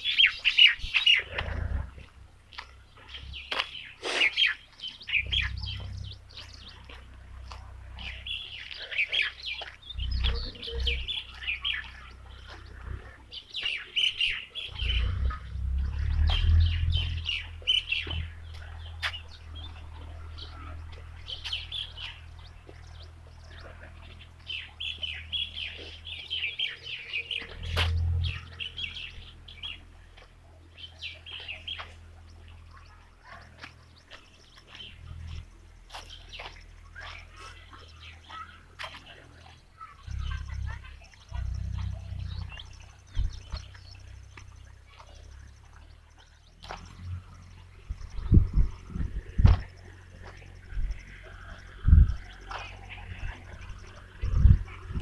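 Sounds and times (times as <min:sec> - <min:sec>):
birds chirping: 0:00.0 - 0:55.0
low rumbles on microphone: 0:09.8 - 0:13.5, 0:14.2 - 0:55.0.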